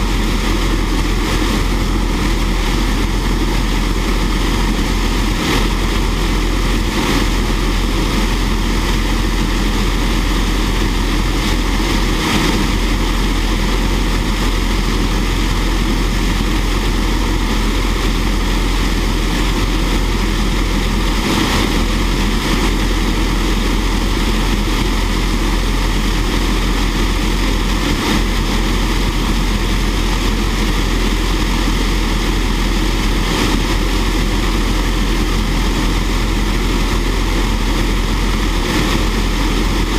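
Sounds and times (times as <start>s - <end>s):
turbojet engine running: 0.0s - 39.9s.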